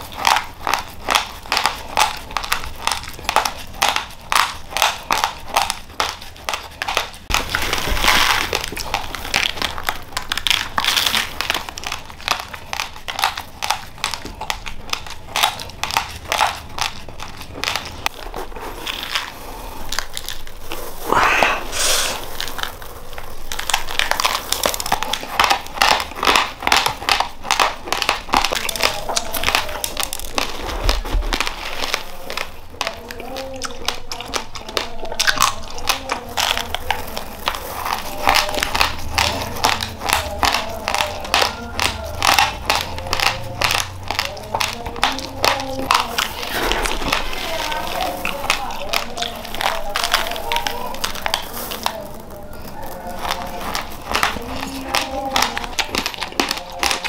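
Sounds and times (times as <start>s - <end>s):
chewing raw rice crunching: 0.0s - 57.0s
plastic bag crinkling: 0.0s - 57.0s.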